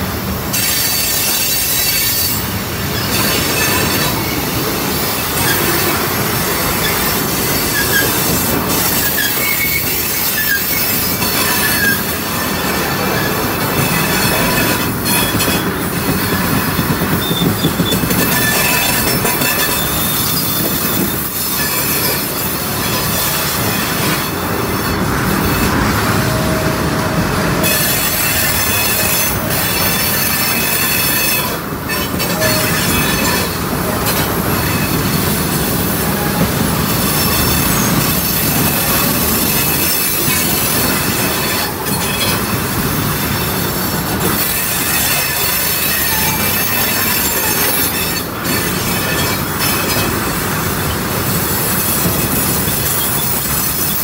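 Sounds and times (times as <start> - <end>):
train wheels rumbling on rails: 0.0 - 54.0
train wheels squealing: 0.5 - 26.4, 27.6 - 54.0.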